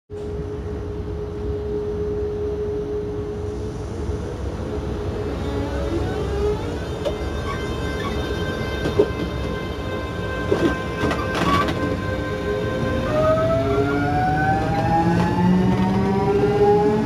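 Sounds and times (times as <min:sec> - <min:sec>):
wheels rumbling on rail: 0:00.2 - 0:17.0.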